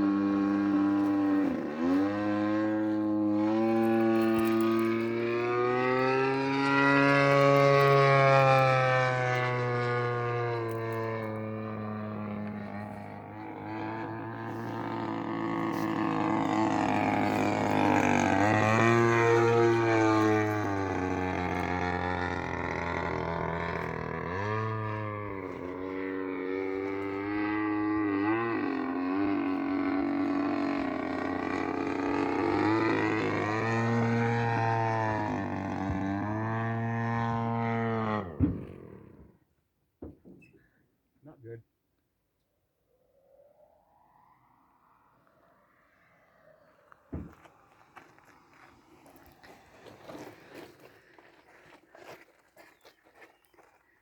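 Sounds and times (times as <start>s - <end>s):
model airplane engine buzzing: 0.0s - 39.4s, 45.2s - 51.2s.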